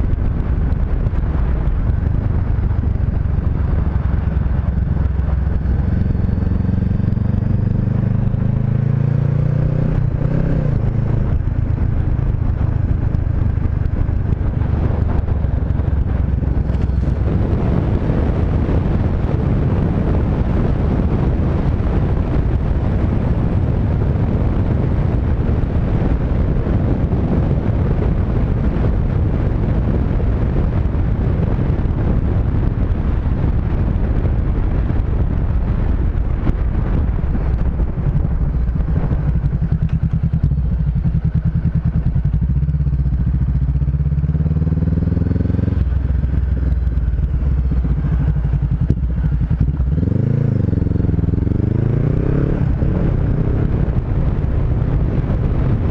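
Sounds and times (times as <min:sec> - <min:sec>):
motorcycle engine: 0:00.0 - 0:55.9
wind rush on microphone: 0:00.0 - 0:55.9.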